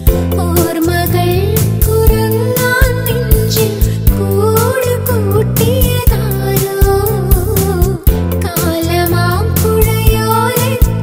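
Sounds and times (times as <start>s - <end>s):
backing music with bass and beat: 0.0s - 11.0s
woman singing: 0.0s - 11.0s.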